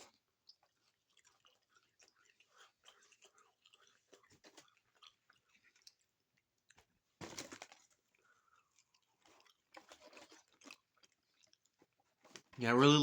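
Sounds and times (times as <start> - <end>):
chewing crunchy taco shell: 0.0 - 12.6.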